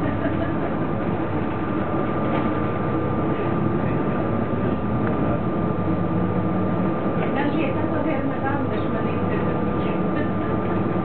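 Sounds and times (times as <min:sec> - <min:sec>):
bus engine rumbling: 0:00.0 - 0:11.0
thin steady whine: 0:00.0 - 0:11.0.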